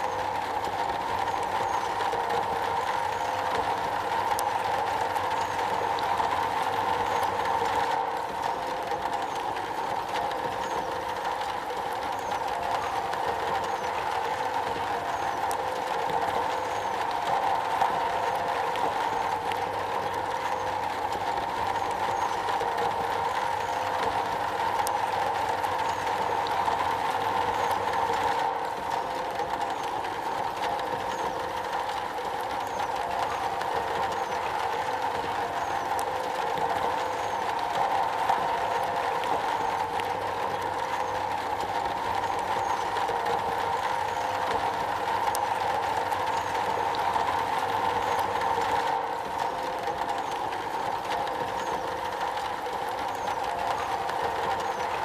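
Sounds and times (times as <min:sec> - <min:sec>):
rain drumming on metal roof: 0:00.0 - 0:55.0.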